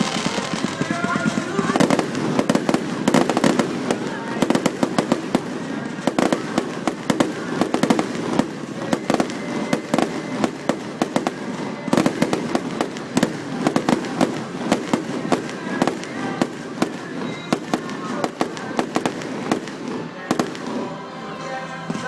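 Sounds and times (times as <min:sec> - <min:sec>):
fireworks cracking and banging: 0:00.0 - 0:22.0.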